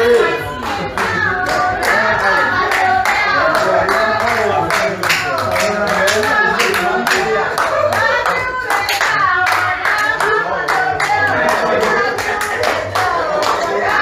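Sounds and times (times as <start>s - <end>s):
group of people singing: 0.0s - 14.0s
rhythmic hand clapping: 0.0s - 14.0s.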